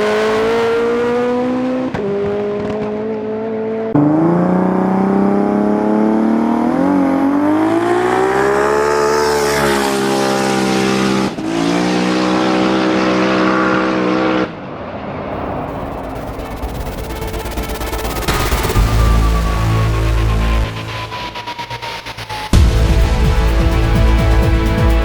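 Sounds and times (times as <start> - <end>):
race car engine at full throttle: 0.0 - 25.0.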